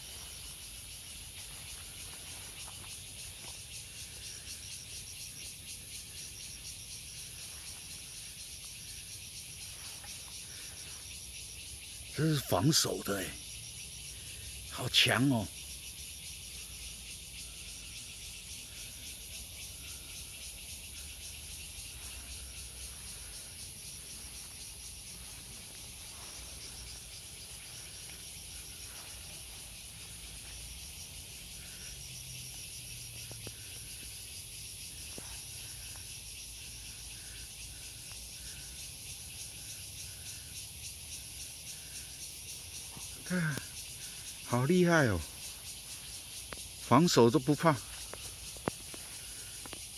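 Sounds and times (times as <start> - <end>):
insect chorus: 0.0 - 49.9.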